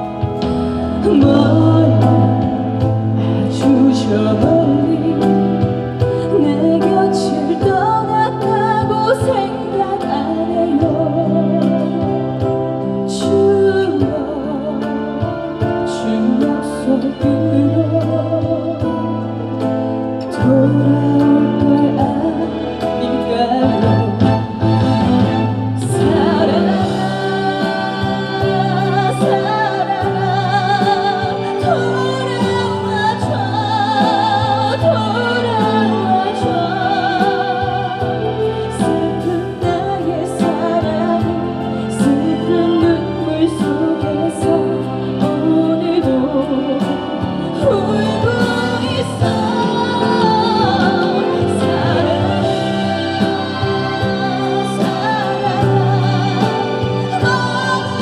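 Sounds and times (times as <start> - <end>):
slow ballad through pa system: 0.0 - 58.0.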